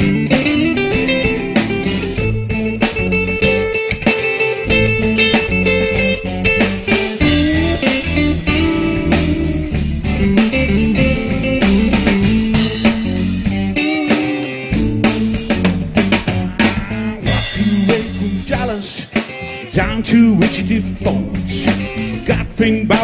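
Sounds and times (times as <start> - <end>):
bass guitar: 0.0 - 23.0
drum kit: 0.0 - 23.0
electric guitars playing: 0.0 - 23.0.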